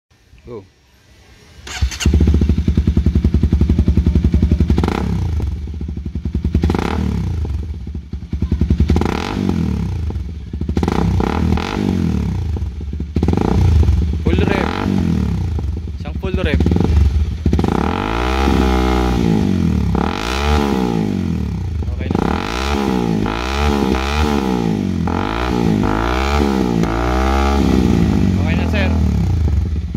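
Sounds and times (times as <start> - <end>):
motorcycle engine idling and revving: 1.6 - 29.9.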